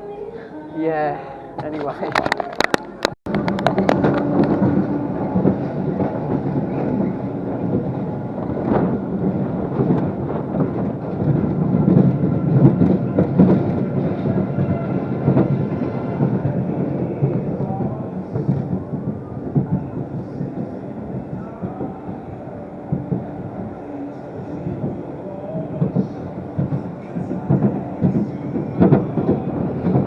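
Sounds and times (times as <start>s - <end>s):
ride vehicle rumbling on track: 1.8s - 30.0s.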